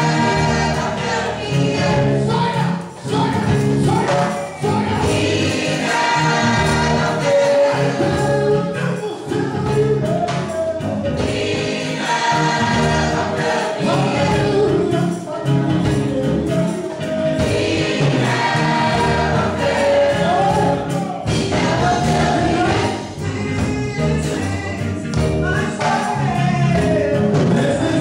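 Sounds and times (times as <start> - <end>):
gospel choir singing: 0.0 - 28.0
lead singers on microphones: 0.0 - 28.0.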